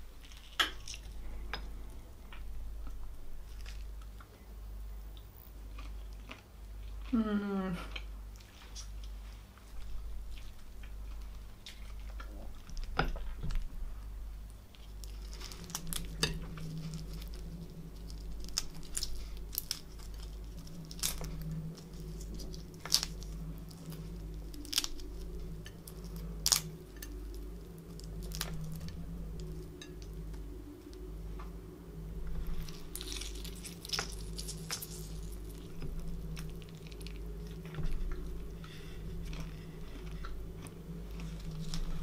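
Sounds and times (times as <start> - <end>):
low steady hum: 0.0 - 42.0
prawn shells crackling and snapping: 0.2 - 4.4, 8.0 - 31.6, 32.2 - 42.0.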